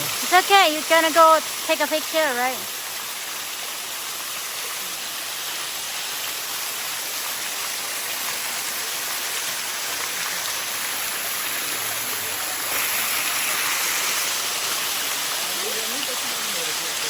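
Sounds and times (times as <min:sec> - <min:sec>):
waterfall rushing hiss: 0:00.0 - 0:17.0.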